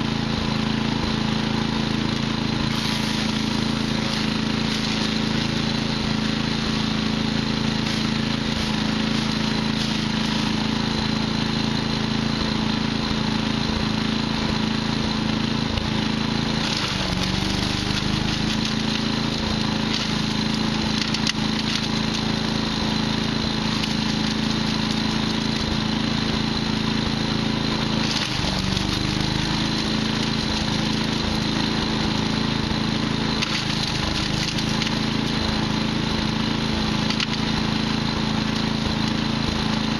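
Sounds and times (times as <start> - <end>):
wood chipper chipping wood: 0.0 - 39.9.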